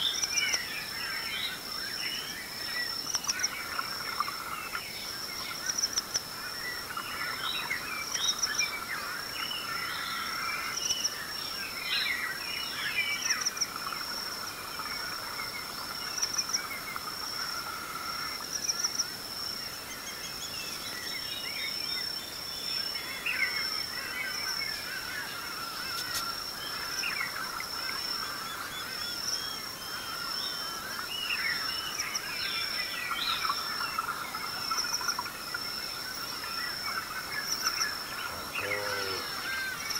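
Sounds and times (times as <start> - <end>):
birds calling and singing: 0.0 - 18.8, 19.5 - 39.9
high-pitched insect trill: 0.0 - 39.9.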